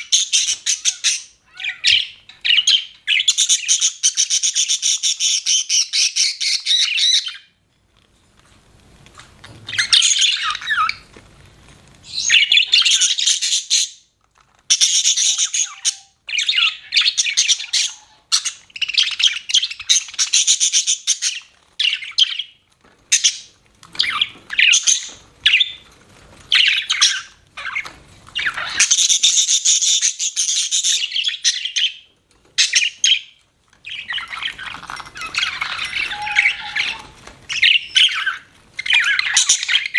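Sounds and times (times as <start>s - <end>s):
budgerigars chirping: 0.0s - 7.5s, 9.7s - 11.0s, 12.1s - 14.0s, 14.7s - 25.8s, 26.5s - 39.9s.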